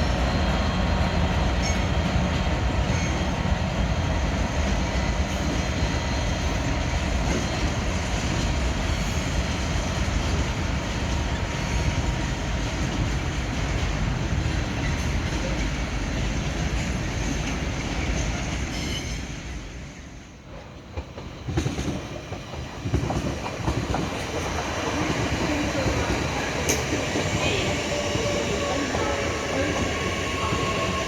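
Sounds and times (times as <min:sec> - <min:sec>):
train running on track: 0:00.0 - 0:31.0.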